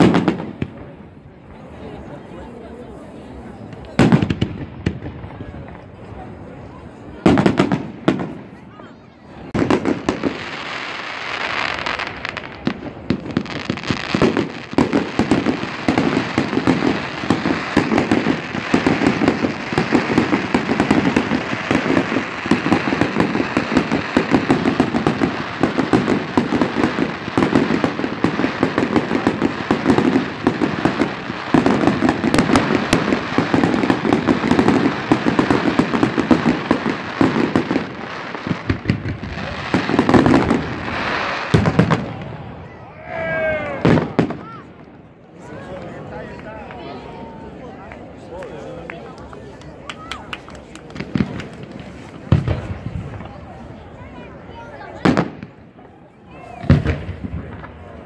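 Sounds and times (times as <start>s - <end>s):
fireworks bursts and crackling: 0.0s - 42.8s, 43.5s - 58.0s.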